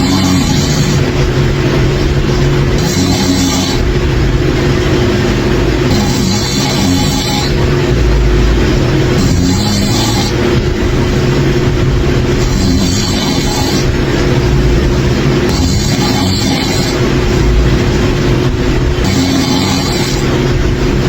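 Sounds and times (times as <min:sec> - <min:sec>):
loud rumbling snoring: 0:00.0 - 0:21.0.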